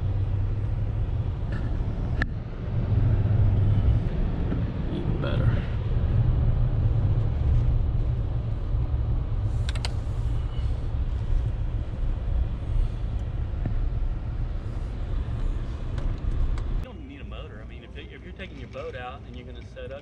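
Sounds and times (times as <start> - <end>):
vehicle cabin road rumble: 0.0 - 20.0.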